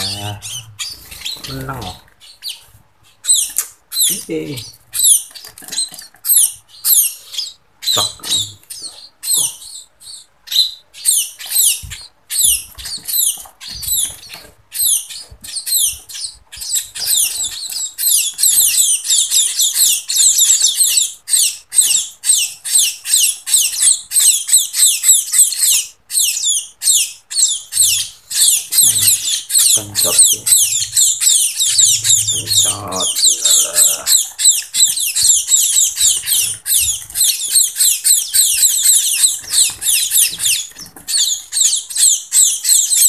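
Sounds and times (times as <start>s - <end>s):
fledglings cheeping: 0.0s - 43.0s.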